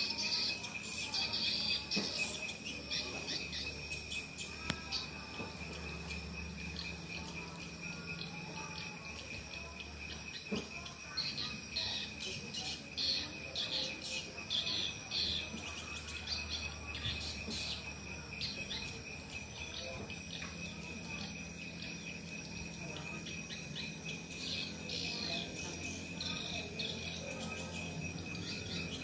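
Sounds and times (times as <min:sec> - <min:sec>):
swiftlets twittering: 0:00.0 - 0:29.0.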